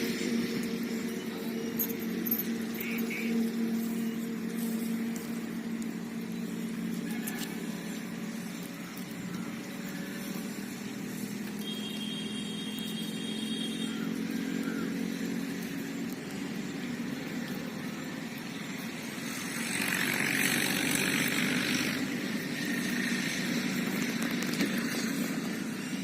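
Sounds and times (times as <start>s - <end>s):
engine hum: 0.0s - 26.0s.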